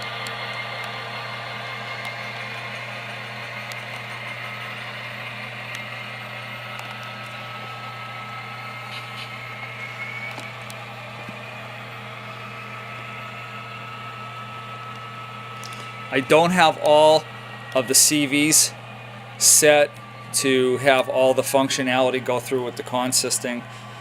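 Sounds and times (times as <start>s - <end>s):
diesel engine sound from small speakers: 0.0s - 24.0s
faint rising whine: 0.0s - 24.0s
low hum: 0.0s - 24.0s.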